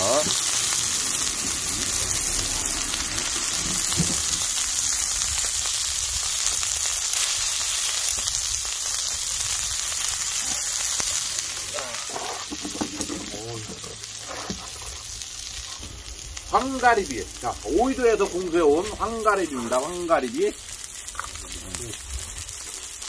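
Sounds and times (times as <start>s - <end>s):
steak and mushrooms sizzling on grill: 0.0s - 23.0s.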